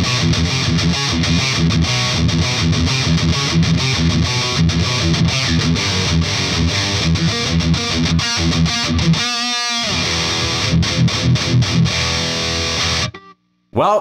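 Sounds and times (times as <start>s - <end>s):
distorted electric guitar riff: 0.0s - 13.4s.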